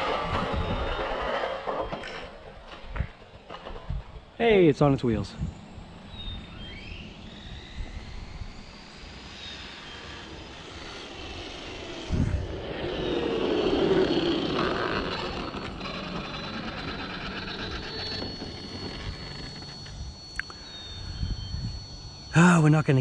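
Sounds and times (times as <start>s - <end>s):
rc truck motor whining: 0.0s - 4.4s, 5.1s - 22.4s.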